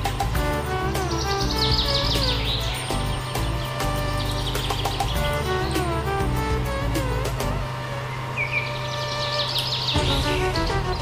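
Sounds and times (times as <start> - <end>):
background music with steady beat: 0.0 - 11.0
high chirping notes: 0.5 - 11.0.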